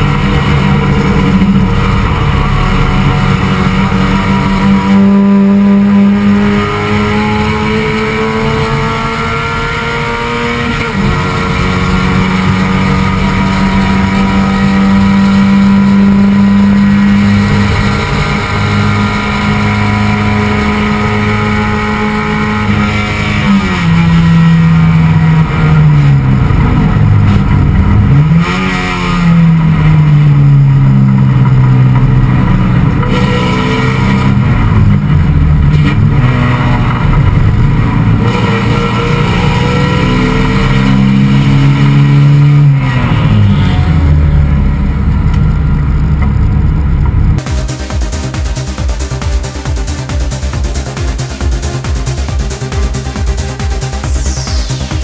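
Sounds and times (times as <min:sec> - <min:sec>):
race car engine at high revs: 0:00.0 - 0:55.0.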